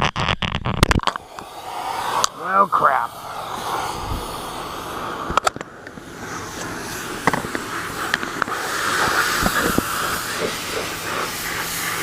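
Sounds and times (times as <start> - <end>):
pressure washer spray hissing: 1.1 - 12.0.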